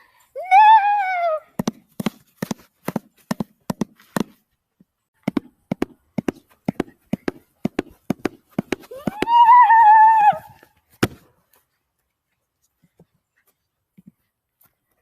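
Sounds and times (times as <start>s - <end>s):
horse hooves clip-clop: 1.6s - 4.4s, 5.3s - 15.0s.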